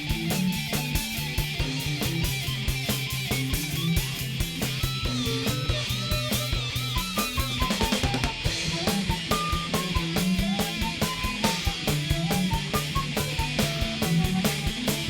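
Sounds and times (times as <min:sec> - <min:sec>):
drum kit fast hits: 0:00.0 - 0:15.0
high lead guitar line: 0:00.0 - 0:15.0
low bass and guitar notes: 0:00.0 - 0:15.0.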